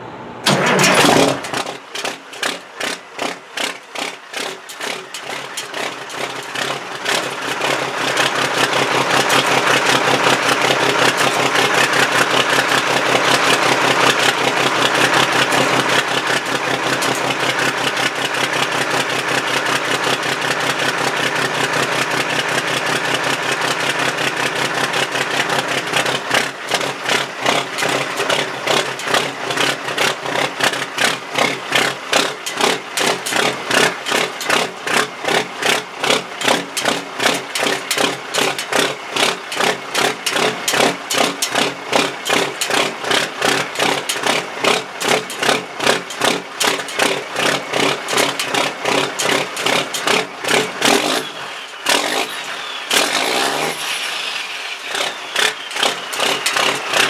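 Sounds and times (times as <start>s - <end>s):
diesel engine exhaust pulsing: 0.0s - 57.0s.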